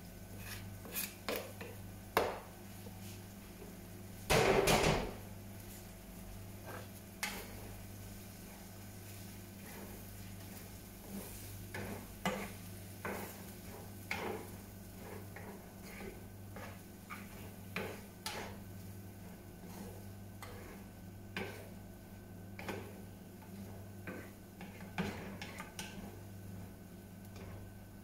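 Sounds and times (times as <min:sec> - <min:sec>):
light sizzling: 0:00.0 - 0:28.0
steady low hum: 0:00.0 - 0:28.0
wooden spatula scraping frying pan: 0:00.3 - 0:01.8, 0:06.6 - 0:27.8.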